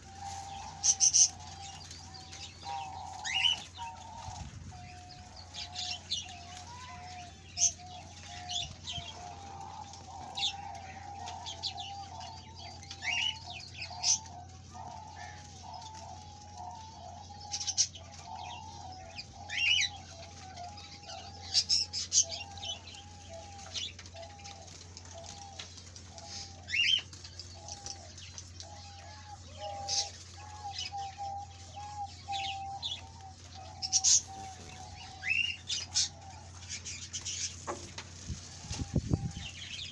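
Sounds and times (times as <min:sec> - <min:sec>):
cage birds chirping: 0:00.0 - 0:39.9
faint steady hum: 0:00.0 - 0:39.9.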